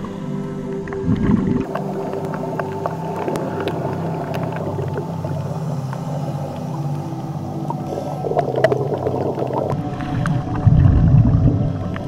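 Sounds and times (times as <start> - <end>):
boat engine hum underwater: 0.0 - 12.0.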